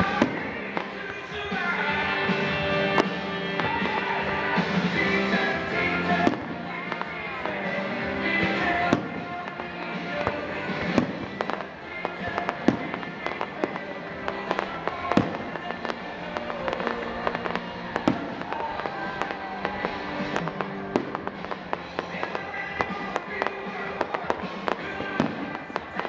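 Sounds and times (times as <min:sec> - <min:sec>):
fireworks bangs: 0:00.0 - 0:26.0
fireworks crackling pops: 0:00.0 - 0:26.0
music: 0:00.0 - 0:26.0.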